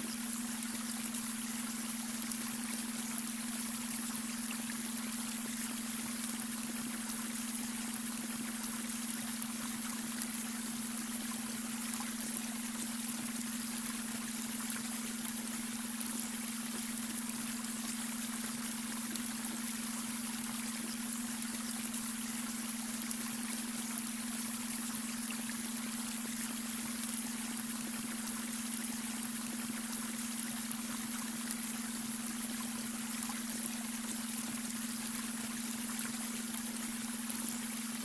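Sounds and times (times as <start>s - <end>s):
brook water trickling: 0.0s - 38.0s.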